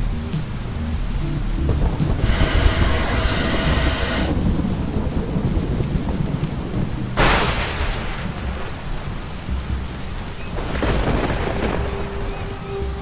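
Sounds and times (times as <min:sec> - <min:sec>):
rain: 0:00.0 - 0:13.0
thunder rumbling: 0:00.0 - 0:13.0
thunder crack: 0:01.6 - 0:13.0.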